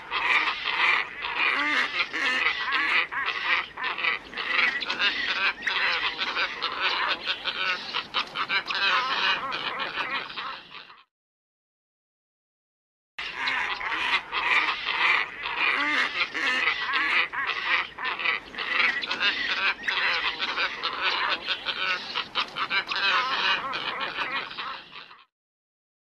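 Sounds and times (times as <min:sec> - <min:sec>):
flock of birds harsh calling: 0:00.0 - 0:11.1, 0:13.2 - 0:25.3.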